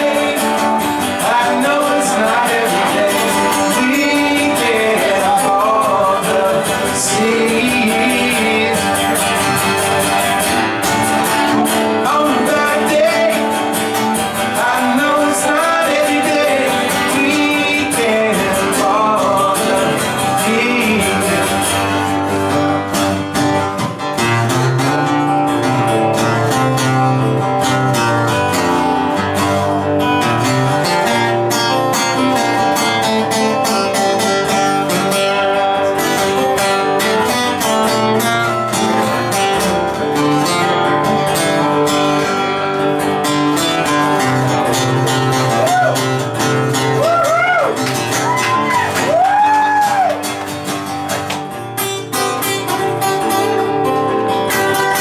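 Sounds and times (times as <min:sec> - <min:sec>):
acoustic guitar strumming: 0:00.0 - 0:55.0
picked acoustic guitar lead: 0:00.0 - 0:55.0.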